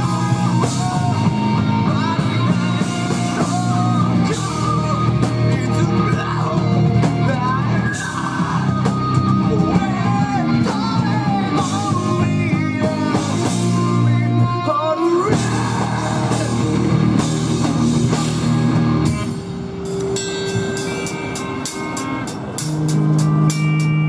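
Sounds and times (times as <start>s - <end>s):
distorted electric guitars: 0.0s - 24.0s
live rock band playing: 0.0s - 24.0s.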